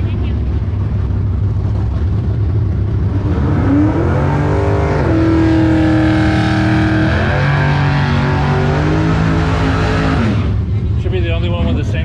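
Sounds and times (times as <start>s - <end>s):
low rumble of engines: 0.0s - 12.0s
race car accelerating and shifting: 0.6s - 12.0s.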